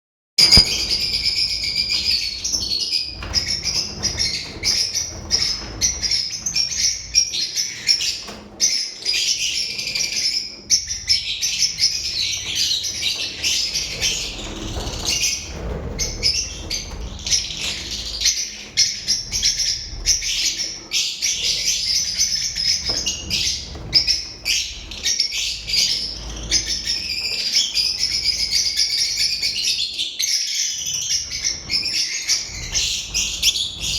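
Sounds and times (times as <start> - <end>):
lovebirds chattering: 0.4 - 33.9.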